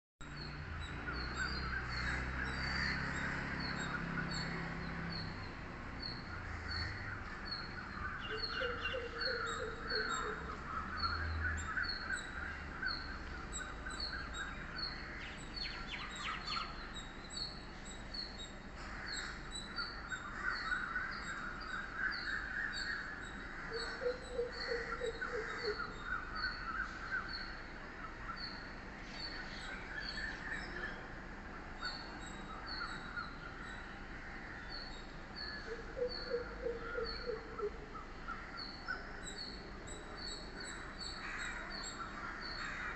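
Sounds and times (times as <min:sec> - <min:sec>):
birds chirping and warbling: 0:00.2 - 0:42.9.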